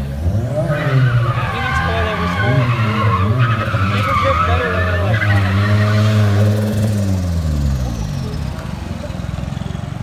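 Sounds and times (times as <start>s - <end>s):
car engine revving: 0.0s - 8.3s
tires squealing on pavement: 0.2s - 8.3s.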